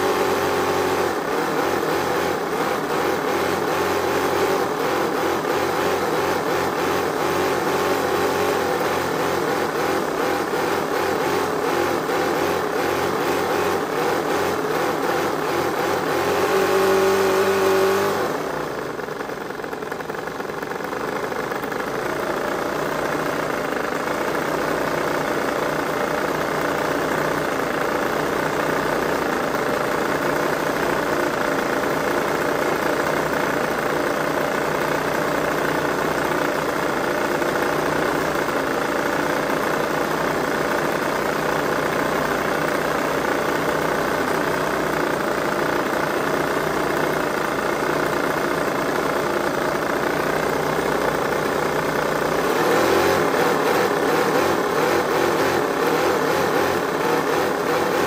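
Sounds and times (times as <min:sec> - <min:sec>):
model engine running: 0:00.0 - 0:58.0.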